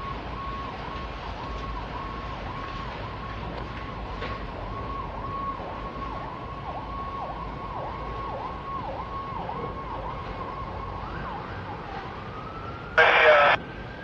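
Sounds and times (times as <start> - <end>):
emergency vehicle siren: 0.0 - 14.0.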